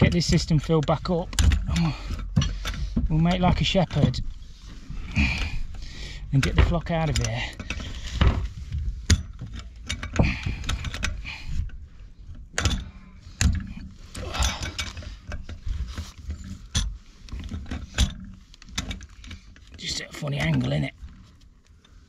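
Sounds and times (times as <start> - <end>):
pipe wrench clicking and scraping: 0.0 - 22.0.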